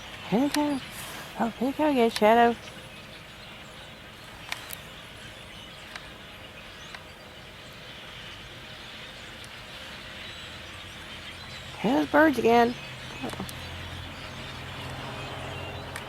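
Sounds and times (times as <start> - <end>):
flock of starlings chattering: 0.0 - 16.0
sharp bird calls: 0.0 - 16.0.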